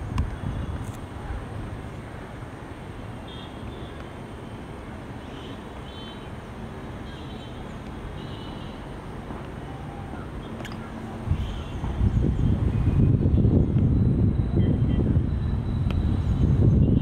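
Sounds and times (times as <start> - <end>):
distant helicopter drone: 0.0 - 17.0.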